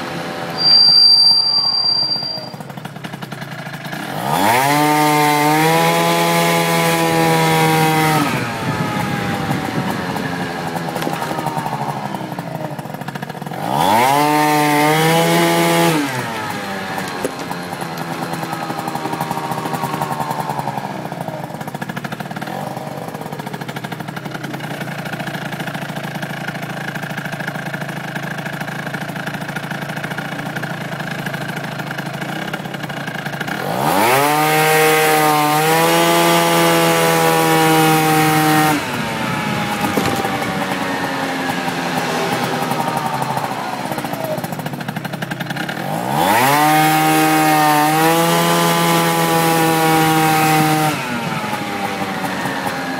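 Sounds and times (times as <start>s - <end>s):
scooter engine revving: 0.0s - 52.9s.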